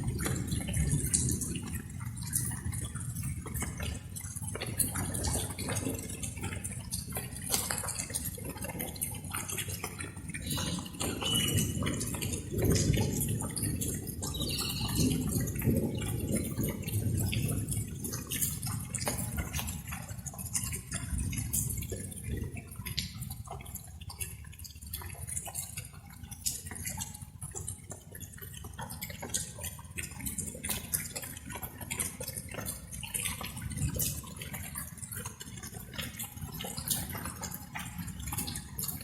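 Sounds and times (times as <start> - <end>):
raindrops ticking: 0.0 - 39.0.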